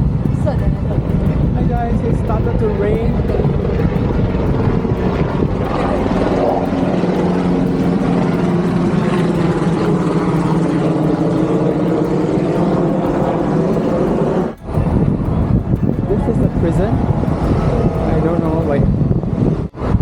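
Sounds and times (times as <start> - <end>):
road noise: 0.0 - 20.0
vehicle engine drone: 0.0 - 20.0.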